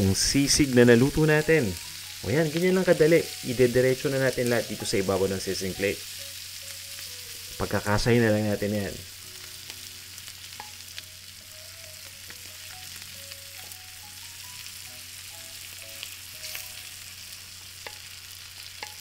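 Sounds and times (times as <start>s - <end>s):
meat sizzling on a hot plate: 0.0s - 19.0s.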